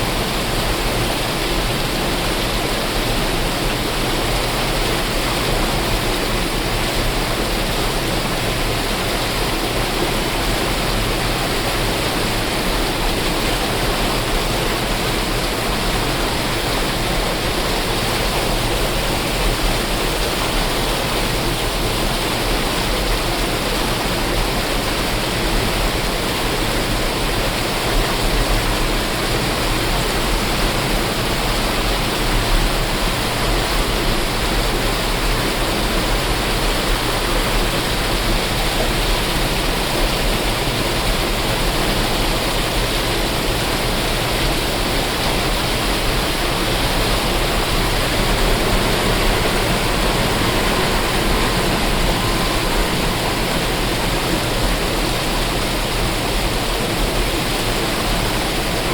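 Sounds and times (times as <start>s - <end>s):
waterfall splashing: 0.0s - 58.9s.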